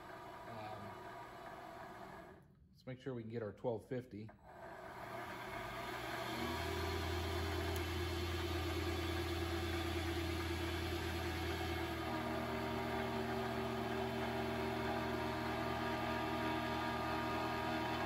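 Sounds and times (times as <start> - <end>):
lathe motor humming and whining: 0.0 - 2.4, 4.5 - 18.0.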